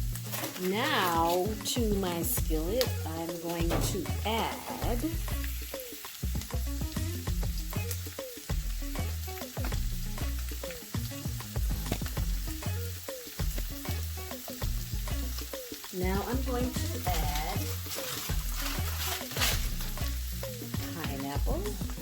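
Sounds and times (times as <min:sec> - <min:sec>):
vegetables sizzling in skillet: 0:00.0 - 0:22.0.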